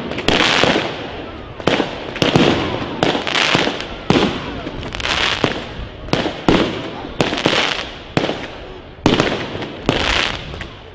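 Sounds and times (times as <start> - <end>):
fireworks bursting: 0.0 - 10.9.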